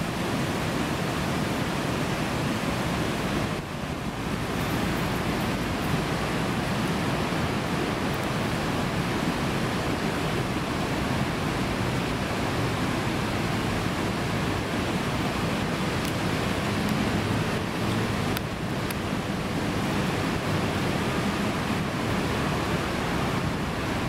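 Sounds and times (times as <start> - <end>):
river water rushing over rapids: 0.0 - 24.0.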